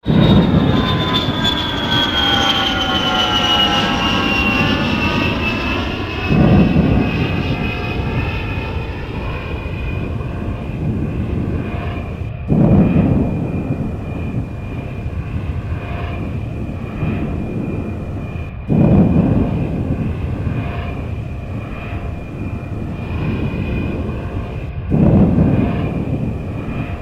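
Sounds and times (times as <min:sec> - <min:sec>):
airplane engine whine: 0:00.0 - 0:27.0
low rumble: 0:00.0 - 0:27.0.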